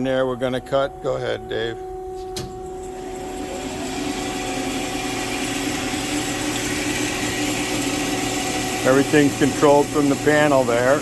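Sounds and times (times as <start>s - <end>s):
bandsaw running hum: 0.0s - 11.0s.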